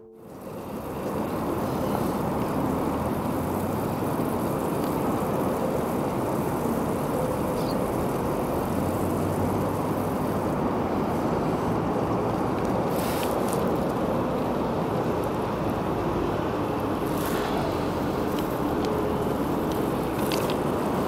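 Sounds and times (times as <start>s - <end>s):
water spraying from hose onto grass: 0.1s - 21.0s.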